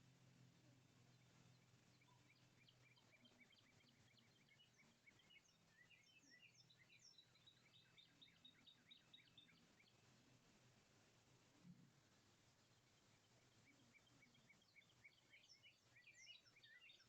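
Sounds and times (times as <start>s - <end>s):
faint songbirds chirping: 0.0s - 17.0s.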